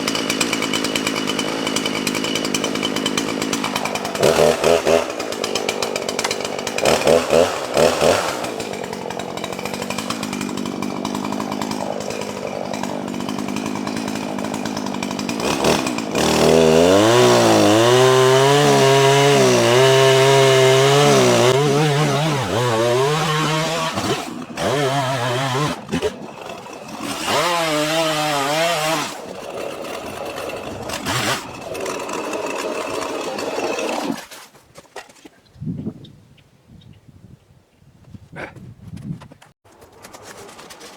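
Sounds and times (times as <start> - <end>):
chainsaw cutting wood: 0.0 - 34.6.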